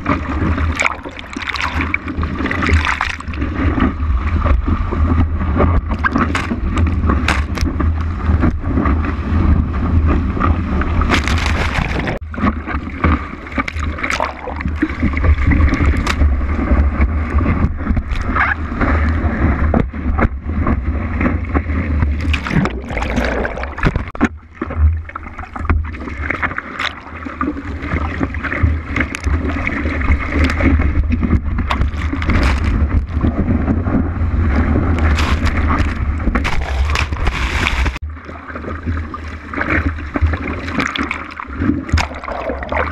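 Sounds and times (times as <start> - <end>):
water rushing and splashing: 0.0 - 42.9.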